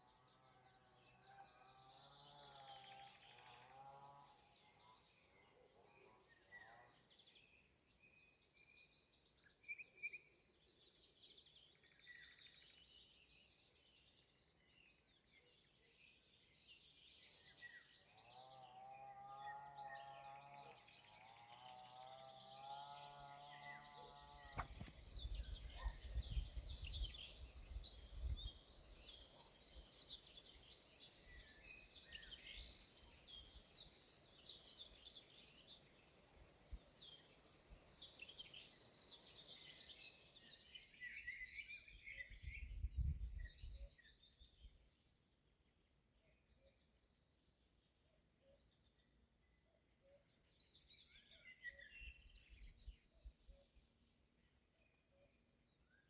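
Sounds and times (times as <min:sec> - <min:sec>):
wild birds singing: 0:00.0 - 0:44.8, 0:47.5 - 0:56.0.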